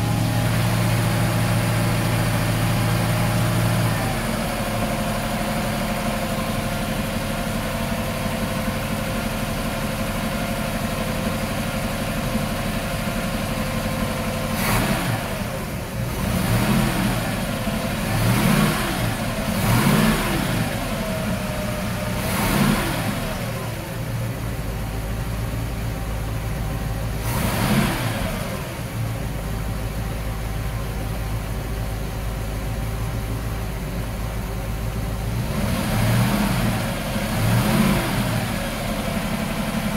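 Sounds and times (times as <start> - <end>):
boat engine idling and revving: 0.0 - 39.9.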